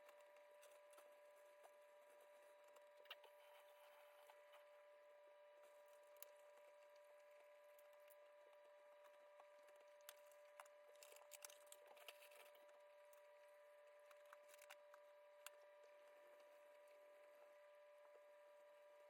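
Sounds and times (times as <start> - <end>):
faint clicks and rustles: 0.0 - 5.0, 5.6 - 19.0
steady high hum: 0.0 - 19.0.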